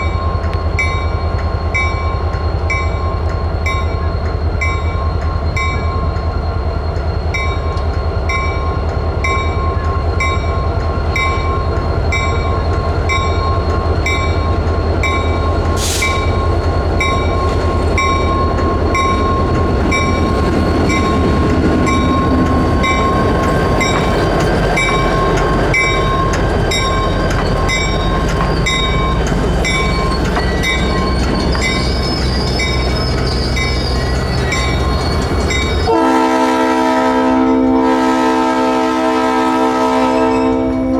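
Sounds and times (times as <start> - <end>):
locomotive bell ringing: 0.0 - 38.3.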